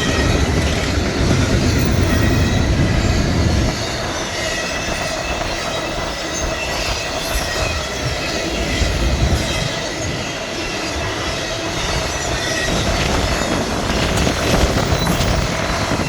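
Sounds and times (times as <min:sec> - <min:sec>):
steel wheels rumbling on rail: 0:00.0 - 0:16.0
wind buffeting microphone: 0:00.0 - 0:16.0.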